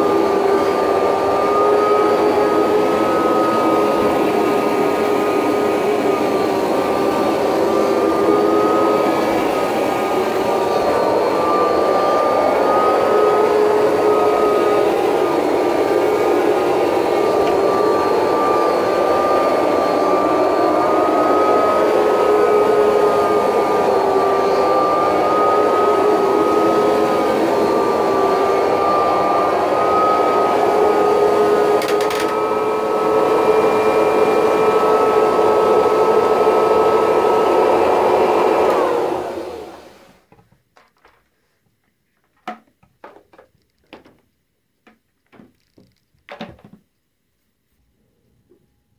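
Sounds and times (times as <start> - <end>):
vacuum cleaner winding down: 0.0 - 40.2
vacuum cleaner motor whine: 0.0 - 40.3.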